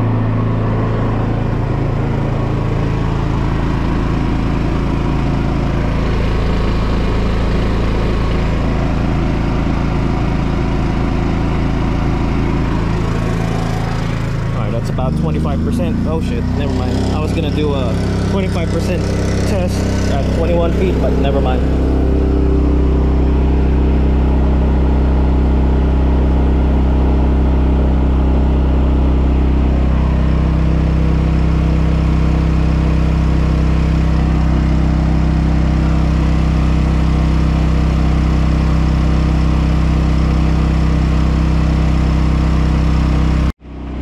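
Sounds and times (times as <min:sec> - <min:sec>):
generator engine running: 0:00.0 - 0:44.0.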